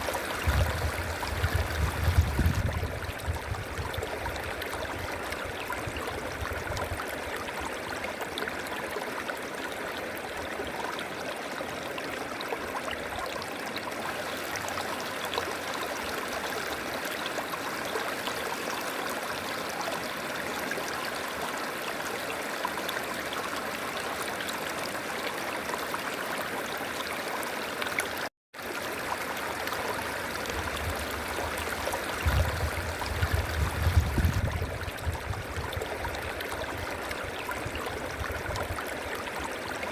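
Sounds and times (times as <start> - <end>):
river water flowing over rocks: 0.0 - 3.3, 3.9 - 39.9.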